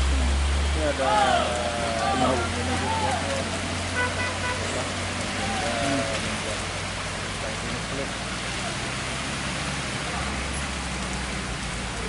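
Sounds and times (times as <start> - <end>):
heavy rain on wet road: 0.0 - 12.0.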